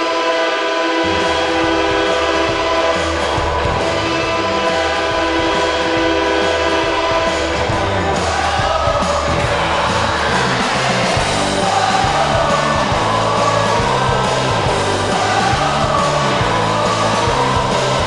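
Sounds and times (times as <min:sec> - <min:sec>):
goal horn chord: 0:00.0 - 0:18.0
music with beat and bass: 0:01.0 - 0:18.0.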